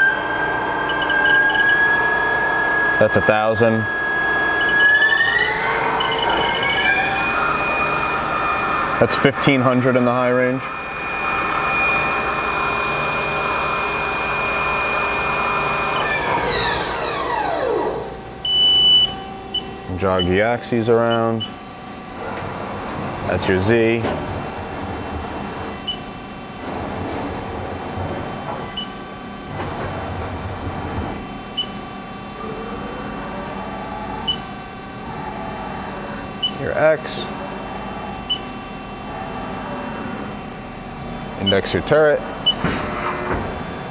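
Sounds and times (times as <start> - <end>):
lathe spindle whine: 0.0 - 43.9
machine running hum: 0.0 - 43.9.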